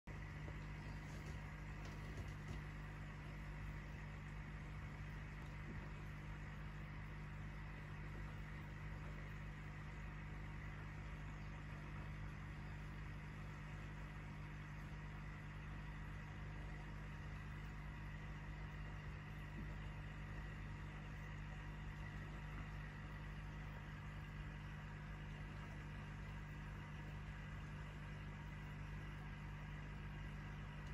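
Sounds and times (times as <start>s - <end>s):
aquarium pump humming: 0.1s - 30.9s.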